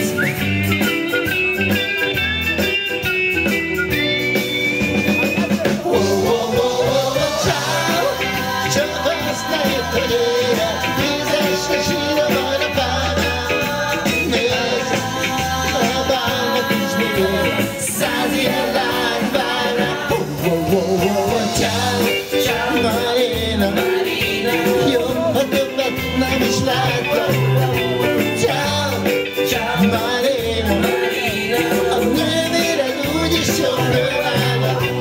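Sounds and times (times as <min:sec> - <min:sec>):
live pop-rock band playing: 0:00.0 - 0:35.0
lead singer singing: 0:04.8 - 0:35.0.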